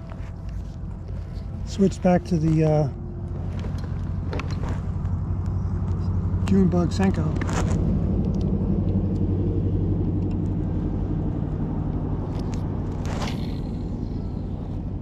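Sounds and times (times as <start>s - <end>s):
low mechanical rumble with hum: 0.0s - 15.0s.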